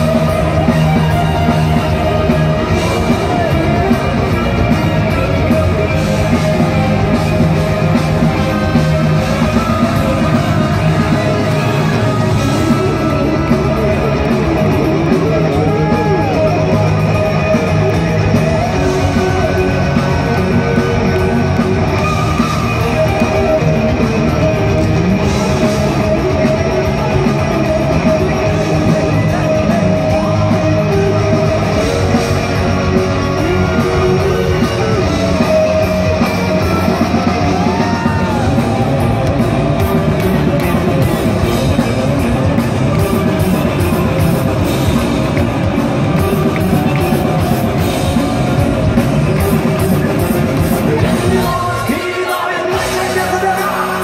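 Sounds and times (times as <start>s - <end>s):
bending guitar lead lines: 0.0s - 54.0s
heavy metal band: 0.0s - 54.0s.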